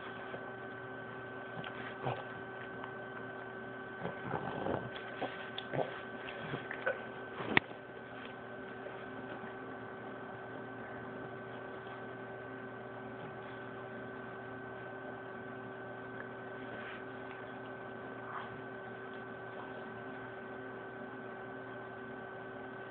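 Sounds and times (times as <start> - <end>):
two-tone hum: 0.0 - 22.9.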